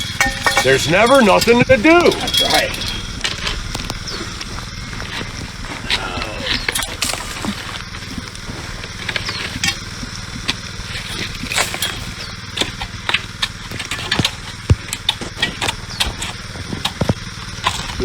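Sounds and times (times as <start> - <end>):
light clicks and knocks: 0.0 - 18.0
small petrol engine running: 0.0 - 18.0.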